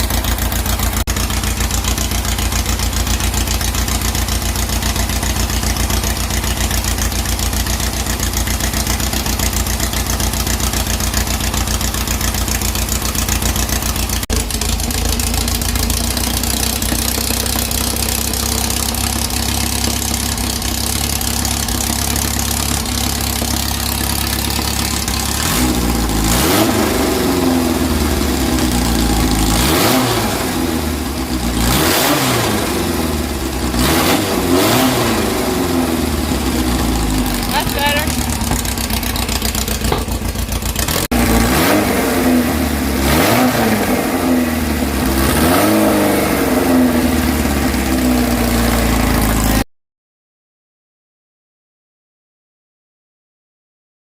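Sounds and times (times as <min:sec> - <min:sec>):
car engine idling and revving: 0:00.0 - 0:49.6.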